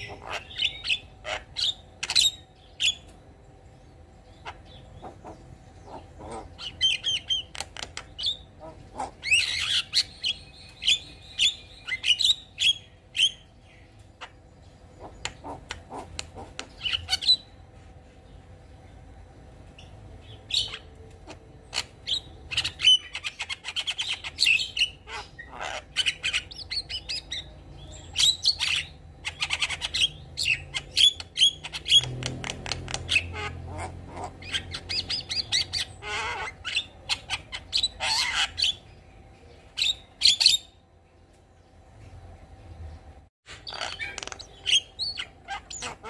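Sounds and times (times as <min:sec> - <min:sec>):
myna bird singing: 0:00.0 - 0:46.0.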